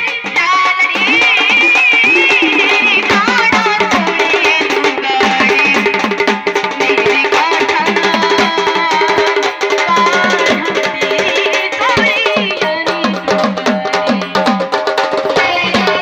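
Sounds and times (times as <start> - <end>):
hand drum fast rhythm: 0.0 - 16.0.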